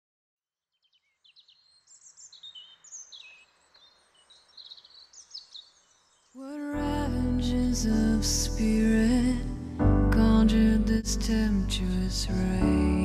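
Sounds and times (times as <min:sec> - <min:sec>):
songbirds chirping: 0:00.6 - 0:13.0.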